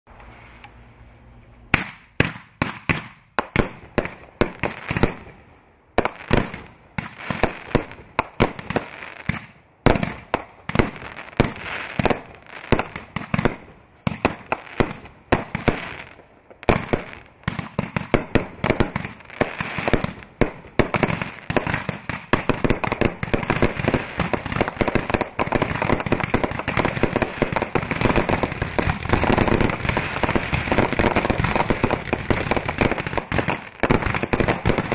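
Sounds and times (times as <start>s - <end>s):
fireworks bangs: 1.7s - 5.4s, 6.0s - 34.9s.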